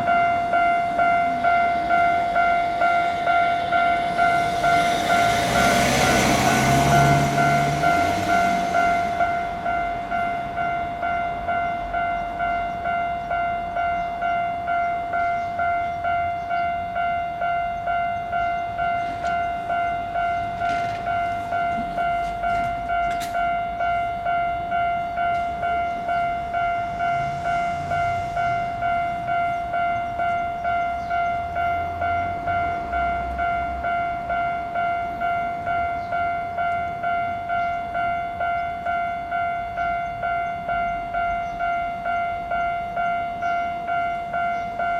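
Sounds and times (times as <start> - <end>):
level crossing warning bell ringing: 0.0 - 44.9.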